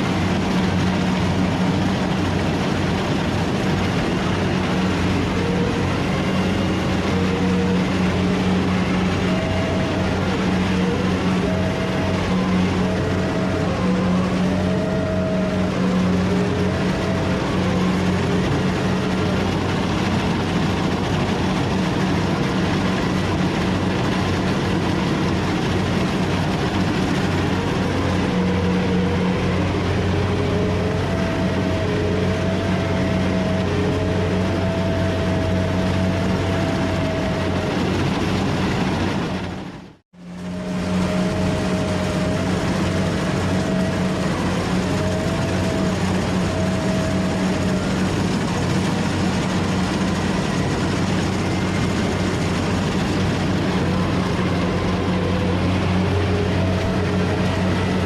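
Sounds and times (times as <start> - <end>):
combine harvester engine hum: 0.0 - 58.0
wavering high whine: 0.0 - 58.0.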